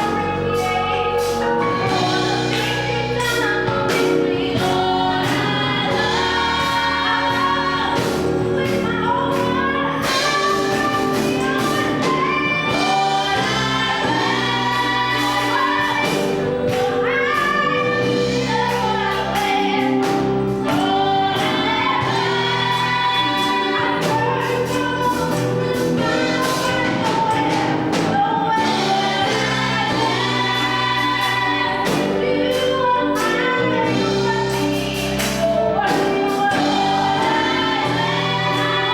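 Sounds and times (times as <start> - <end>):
gospel choir singing: 0.0 - 38.9
instrumental backing: 0.0 - 38.9
percussion hits: 0.0 - 38.9.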